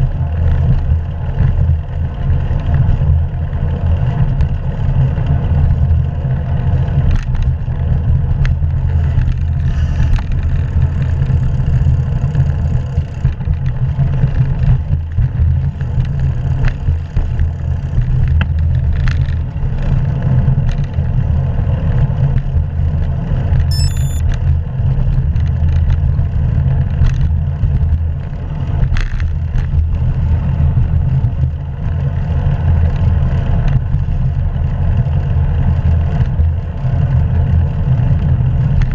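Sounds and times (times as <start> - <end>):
road and tyre noise: 0.0 - 38.9.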